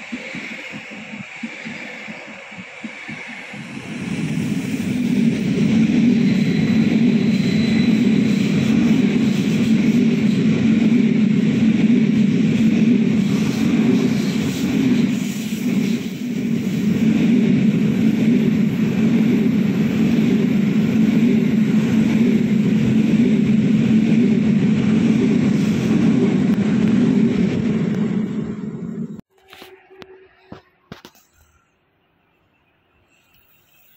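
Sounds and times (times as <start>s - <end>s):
wheels rumbling on rails: 0.0s - 29.9s.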